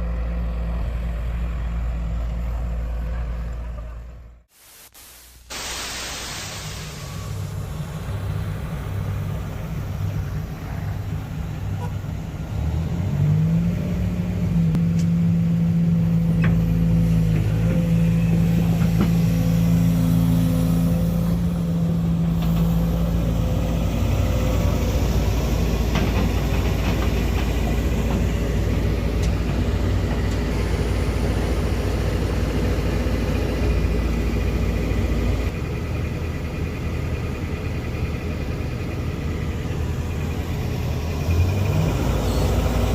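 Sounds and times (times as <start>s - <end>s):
heavy engine low rumble: 0.0s - 4.5s, 5.6s - 42.9s.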